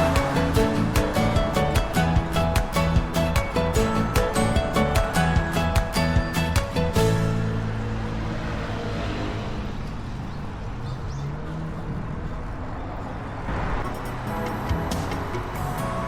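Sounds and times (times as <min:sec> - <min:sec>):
road traffic noise: 0:00.0 - 0:16.0
vehicle engine humming: 0:00.0 - 0:16.0.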